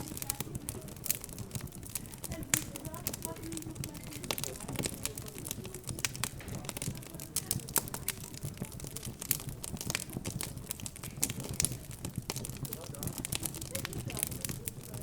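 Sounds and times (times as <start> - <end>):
murmur of background chatter: 0.0 - 15.0
wood fire crackling: 0.0 - 15.0.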